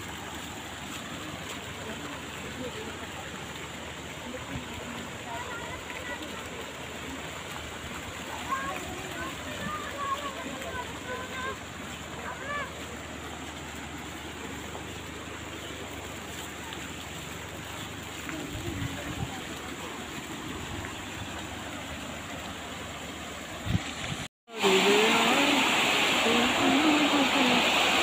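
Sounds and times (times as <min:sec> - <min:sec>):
water rushing through fountain: 0:00.0 - 0:28.0.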